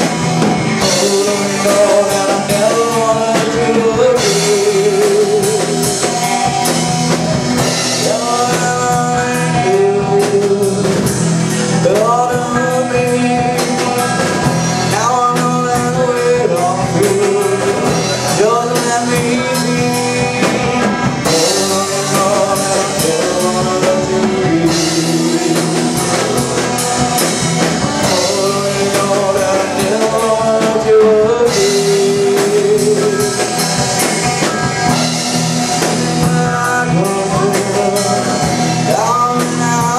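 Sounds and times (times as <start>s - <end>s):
person singing lead vocal: 0.0s - 39.9s
rock band playing: 0.0s - 39.9s.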